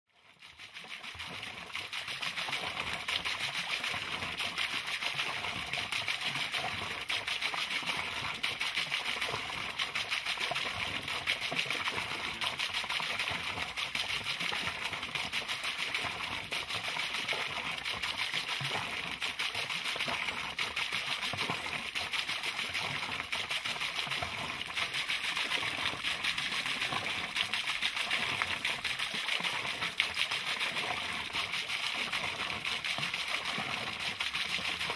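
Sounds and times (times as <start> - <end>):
water splashing into pond: 0.2 - 34.9.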